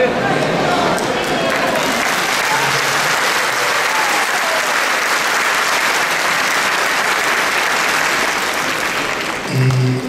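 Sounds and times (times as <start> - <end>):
large crowd applauding: 0.9 - 10.0.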